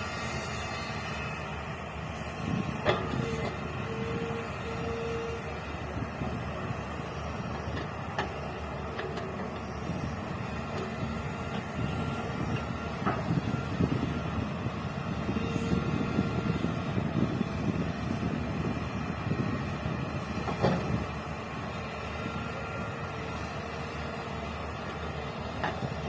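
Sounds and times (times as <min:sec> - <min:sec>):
excavator diesel engine rumbling: 0:00.0 - 0:26.0.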